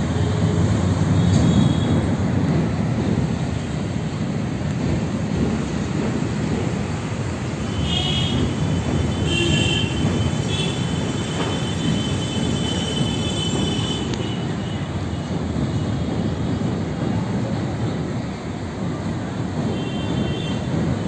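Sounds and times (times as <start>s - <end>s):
train rumbling over bridge: 0.0s - 21.0s.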